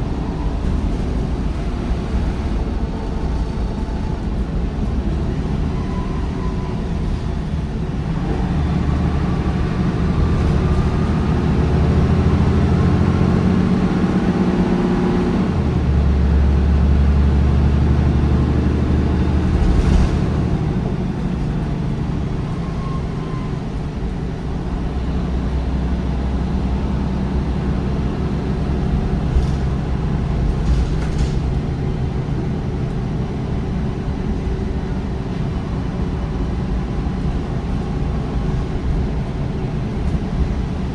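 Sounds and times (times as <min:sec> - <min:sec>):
diesel bus engine pulling: 0:00.0 - 0:40.9.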